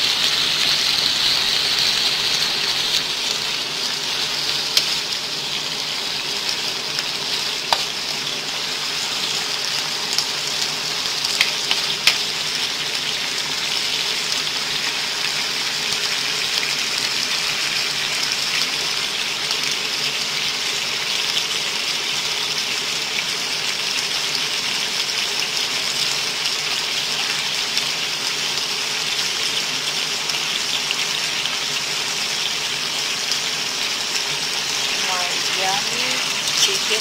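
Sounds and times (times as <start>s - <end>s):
food sizzling in a pan: 0.0s - 37.0s.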